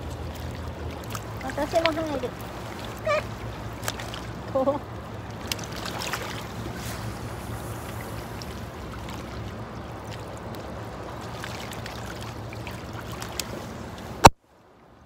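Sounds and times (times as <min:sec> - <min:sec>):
small waves lapping on shore: 0:00.0 - 0:15.0
wind: 0:00.0 - 0:15.0.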